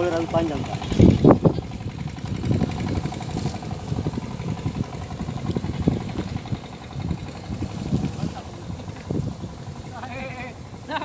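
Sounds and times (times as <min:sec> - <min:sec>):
small boat engine running: 0:00.0 - 0:11.0
wind on microphone: 0:00.0 - 0:11.0.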